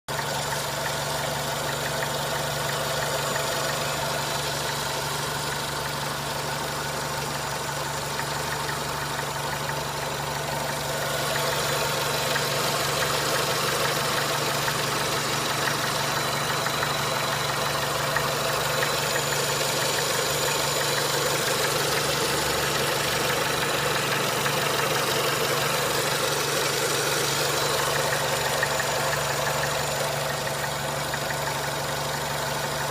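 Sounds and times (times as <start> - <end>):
car engine idling: 0.1 - 32.9
knocking in engine: 0.1 - 32.9.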